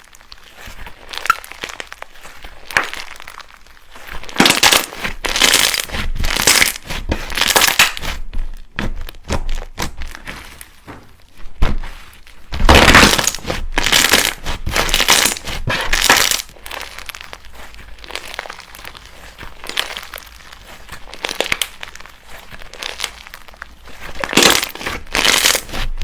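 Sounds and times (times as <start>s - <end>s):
slime crackling and crunching: 0.0s - 26.0s.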